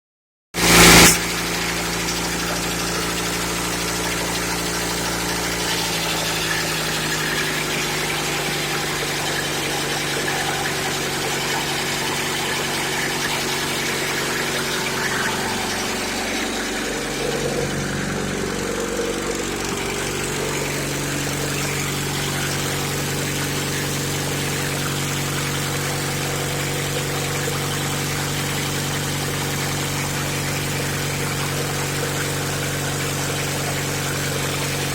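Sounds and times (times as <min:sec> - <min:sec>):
small gasoline motor running: 0:00.6 - 0:34.9.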